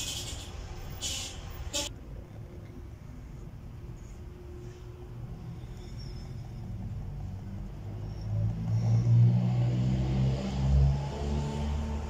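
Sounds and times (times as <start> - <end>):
motor vehicle engine rumble: 0.0 - 12.0.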